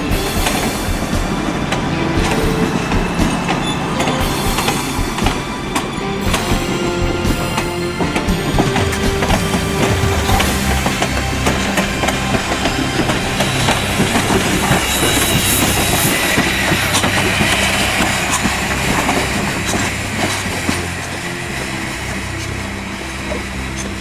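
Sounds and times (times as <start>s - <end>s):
steam hissing: 0.0s - 24.0s
steam train rolling past: 0.0s - 24.0s
wheels clicking over rail joints: 0.0s - 24.0s.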